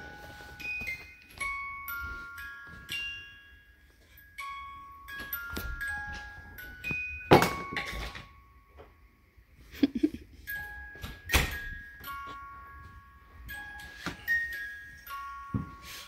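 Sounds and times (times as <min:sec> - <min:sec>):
bell-like mallet melody: 0:00.0 - 0:08.7, 0:10.4 - 0:16.0.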